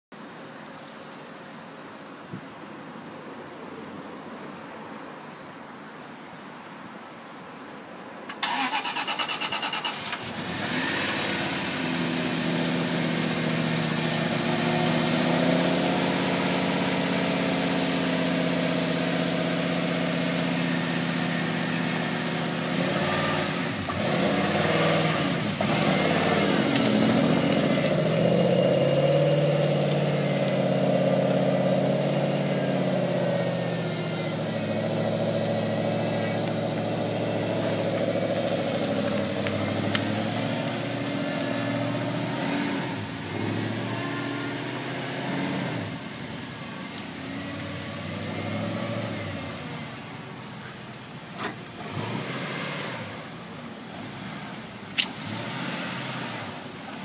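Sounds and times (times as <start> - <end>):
race car engine starting and revving: 8.3 - 57.0.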